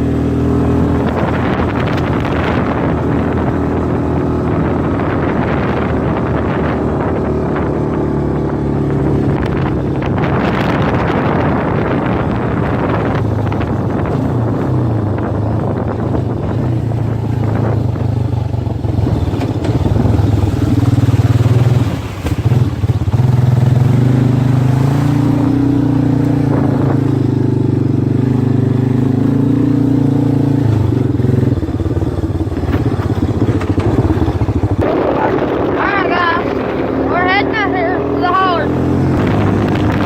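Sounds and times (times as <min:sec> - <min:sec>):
engine running: 0:00.0 - 0:40.0.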